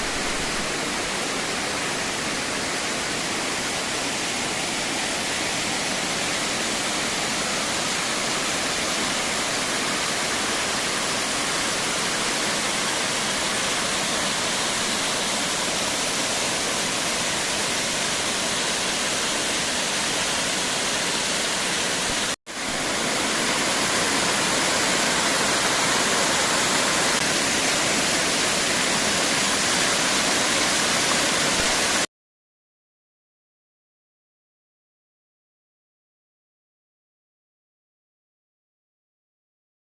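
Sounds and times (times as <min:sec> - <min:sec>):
waterfall rushing: 0:00.0 - 0:32.1.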